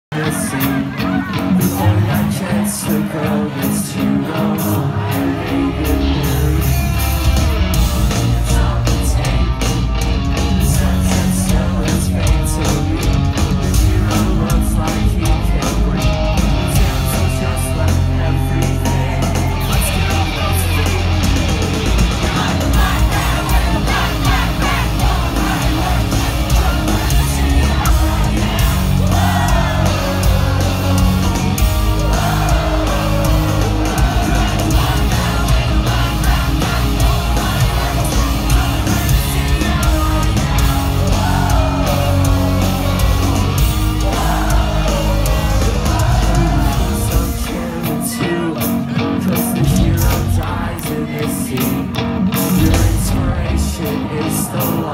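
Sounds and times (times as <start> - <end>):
live rock band playing: 0.1 - 54.9
person singing: 0.1 - 54.9.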